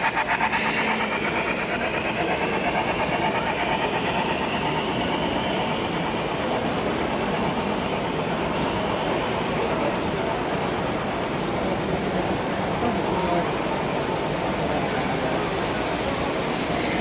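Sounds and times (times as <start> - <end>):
model train wheels rolling on rail: 0.0 - 17.0.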